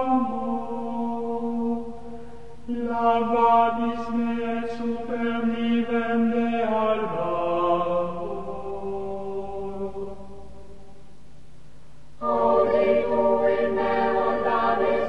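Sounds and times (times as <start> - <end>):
chanted singing: 0.0 - 2.0, 2.7 - 10.4, 12.2 - 15.0.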